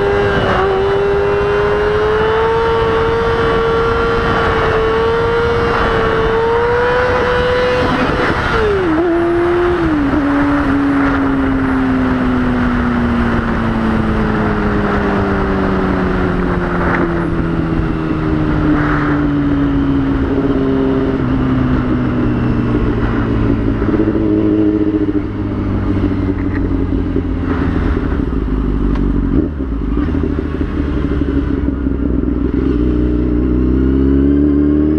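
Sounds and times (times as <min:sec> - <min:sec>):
motorcycle engine revving: 0:00.0 - 0:34.9
wind noise: 0:00.0 - 0:34.9.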